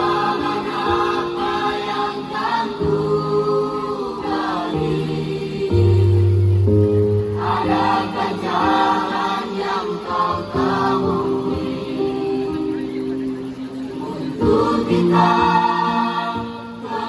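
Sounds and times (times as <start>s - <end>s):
choir singing chords: 0.0s - 17.0s.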